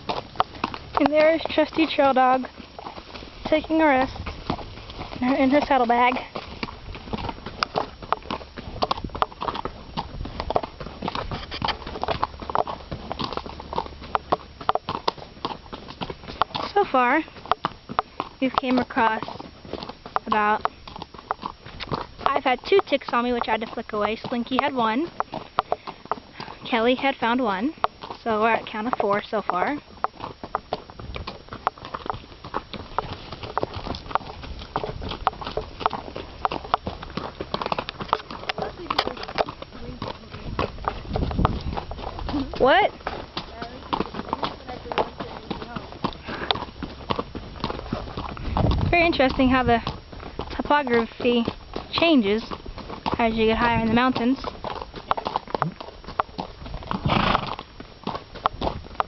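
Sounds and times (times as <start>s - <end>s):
horse hooves on gravel: 0.0s - 59.0s.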